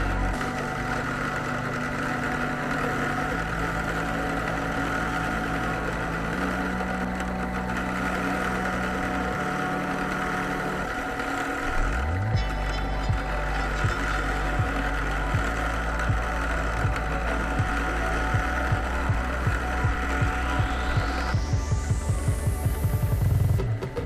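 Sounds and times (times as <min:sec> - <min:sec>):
buffing wheel against stone: 0:00.0 - 0:24.0
drill press motor running: 0:00.0 - 0:24.0.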